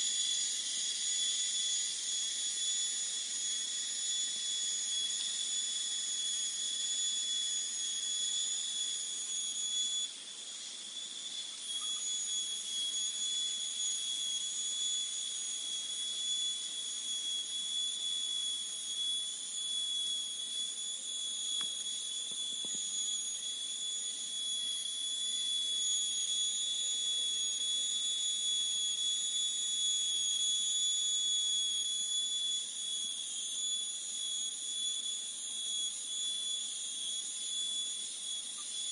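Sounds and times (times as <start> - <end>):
shrill insect chorus: 0.0 - 38.9.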